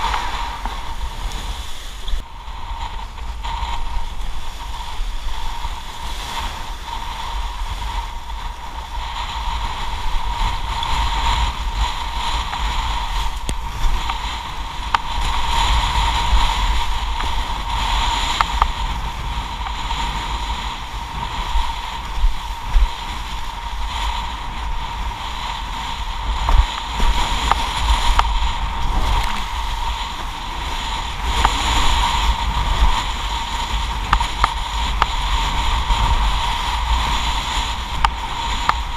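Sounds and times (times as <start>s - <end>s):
board slapping waves: 0.0s - 38.9s
rushing water and spray: 0.0s - 38.9s
wind buffeting microphone: 0.0s - 38.9s.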